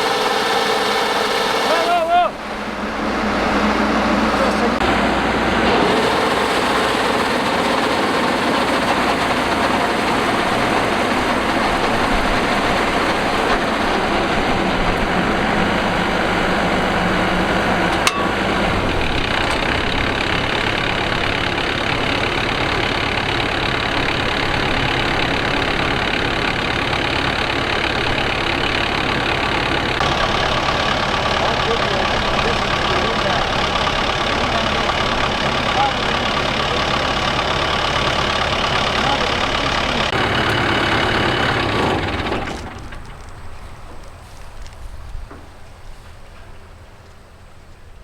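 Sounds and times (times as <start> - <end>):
combine harvester engine running: 0.0 - 48.0.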